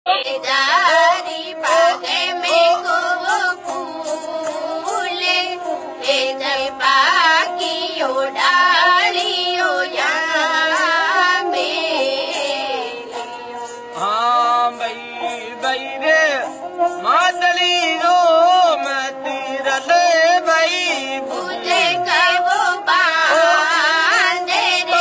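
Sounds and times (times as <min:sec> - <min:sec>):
high voice singing with vibrato: 0:00.1 - 0:25.0.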